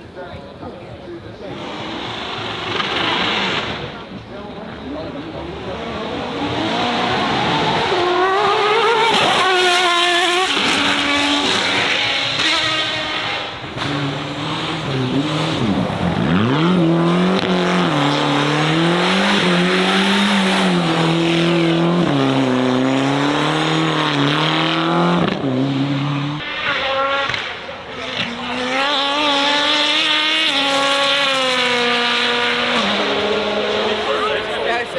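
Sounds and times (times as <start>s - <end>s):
race car engine revving: 1.4s - 34.9s.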